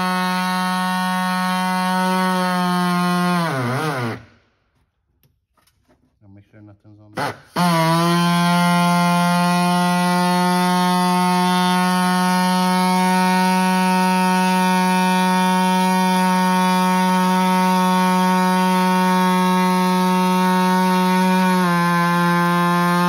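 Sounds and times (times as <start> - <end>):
power cutting tool whining: 0.0 - 4.4, 7.2 - 23.0.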